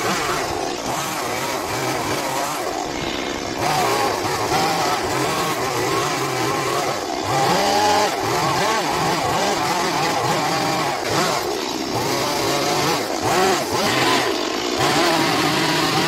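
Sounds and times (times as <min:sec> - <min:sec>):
chainsaw cutting into log: 0:00.0 - 0:16.0.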